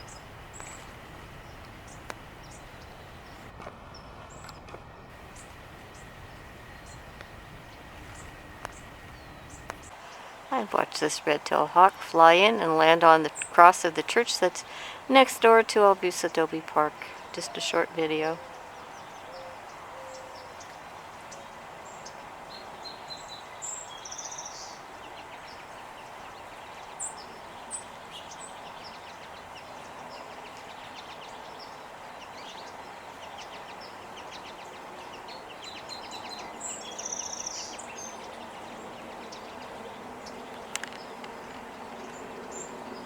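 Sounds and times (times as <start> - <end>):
outdoor background hum: 0.0 - 43.0
small birds chirping: 0.0 - 43.0.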